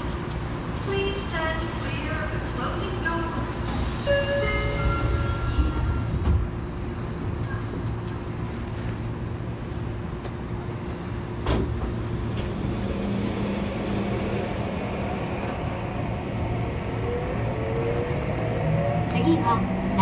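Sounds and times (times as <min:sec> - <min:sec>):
train cabin rumble and hum: 0:00.0 - 0:20.0.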